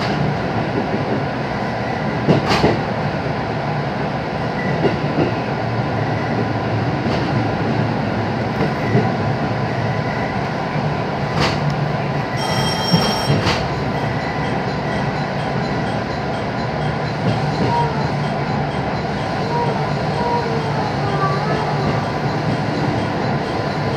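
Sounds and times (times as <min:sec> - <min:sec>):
train wheels and motors rumbling: 0:00.0 - 0:23.9.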